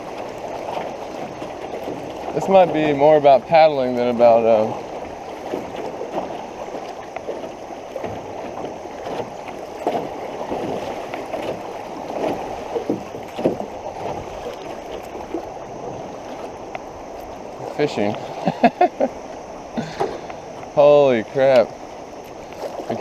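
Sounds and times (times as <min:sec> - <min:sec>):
creek water rushing: 0:00.0 - 0:23.0
paddle splashes and knocks: 0:00.0 - 0:23.0.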